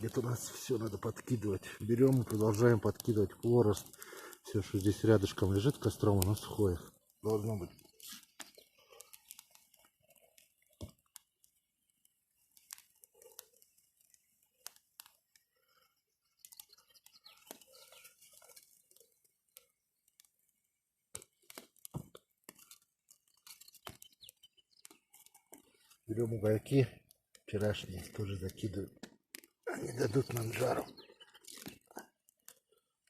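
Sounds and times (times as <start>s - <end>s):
crackling twigs on campfire: 0.0s - 33.0s.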